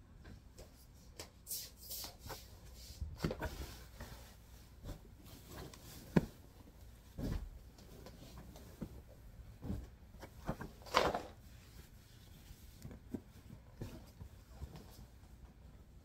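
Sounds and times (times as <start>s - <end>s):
sheet swishing and rustling: 1.7s - 15.5s.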